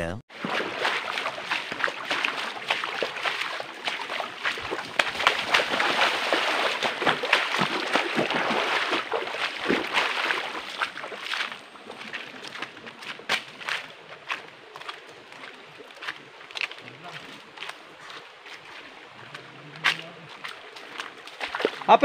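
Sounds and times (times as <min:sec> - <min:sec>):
water splashing around wading person: 0:00.3 - 0:22.0.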